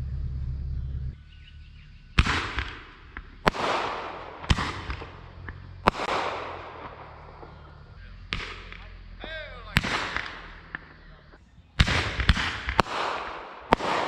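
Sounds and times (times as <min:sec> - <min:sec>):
low steady hum: 0:00.0 - 0:11.8
fireworks bangs: 0:02.2 - 0:14.0.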